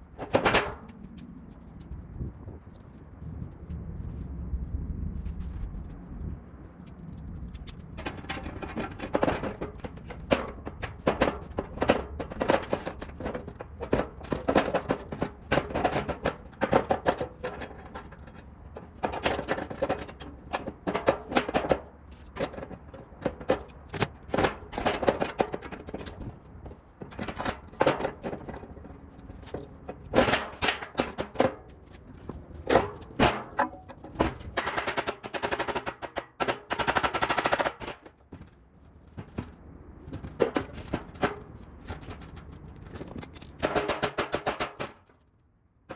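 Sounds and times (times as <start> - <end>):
tools and metal parts clattering: 8.0 - 45.3.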